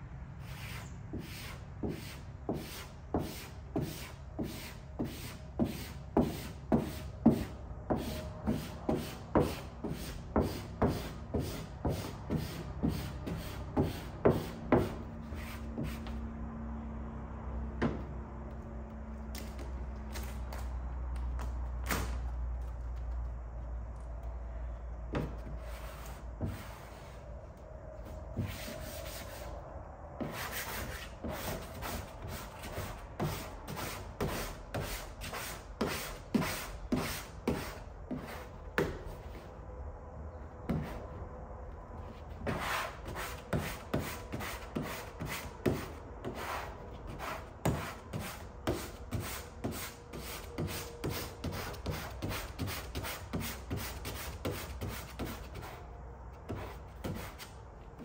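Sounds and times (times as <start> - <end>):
squeegee rubbing vinyl stripe: 0.4 - 16.3, 18.8 - 23.4, 25.1 - 27.4, 28.0 - 29.6, 30.2 - 39.6, 42.0 - 58.0.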